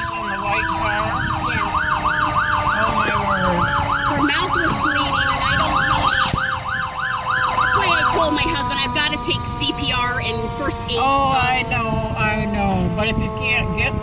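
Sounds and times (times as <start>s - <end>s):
siren yelping: 0.0s - 14.0s
steady tones: 0.0s - 14.0s.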